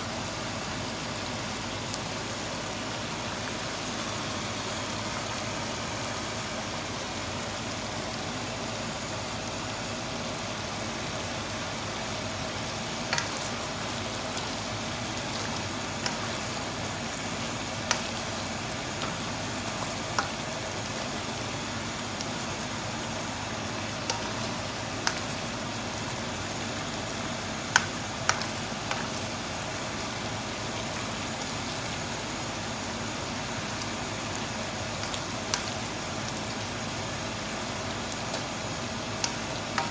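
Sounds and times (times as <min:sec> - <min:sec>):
stew simmering with hiss: 0:00.0 - 0:39.9.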